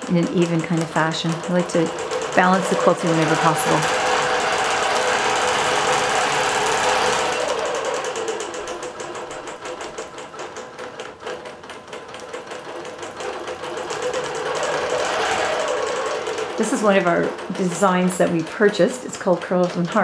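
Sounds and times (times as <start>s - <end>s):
quilting machine needle clatter: 0.0s - 20.0s.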